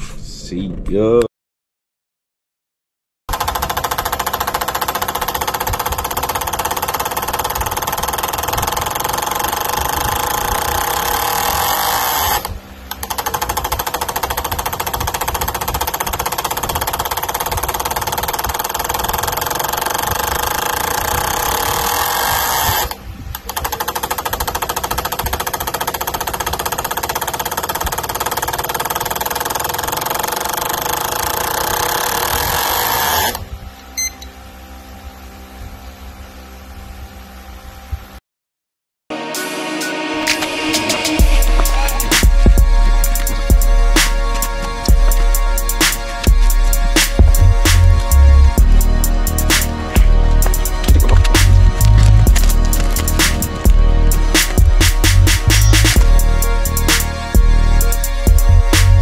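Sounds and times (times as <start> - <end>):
fuel injectors buzzing rattle: 3.3 - 34.3, 41.2 - 59.0.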